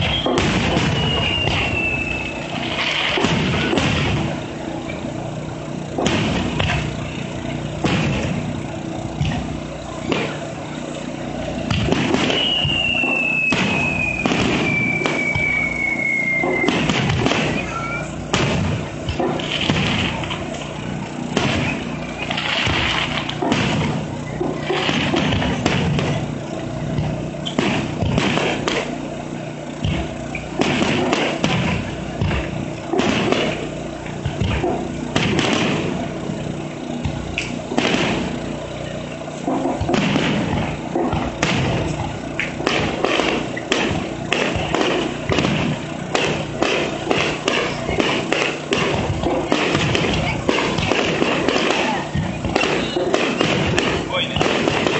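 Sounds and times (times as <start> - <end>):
crackling firework stars: 0.0 - 54.9
firework shells booming: 0.0 - 54.9.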